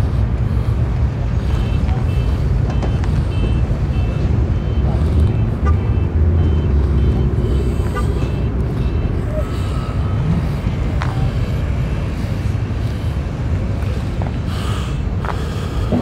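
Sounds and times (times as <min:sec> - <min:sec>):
distant vehicles: 0:00.0 - 0:16.0
low outdoor rumble: 0:00.0 - 0:16.0.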